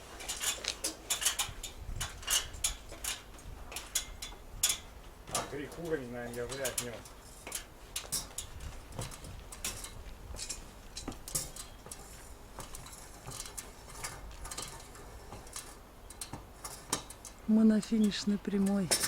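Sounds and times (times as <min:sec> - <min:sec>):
light clicks and taps of tools: 0:00.3 - 0:17.4.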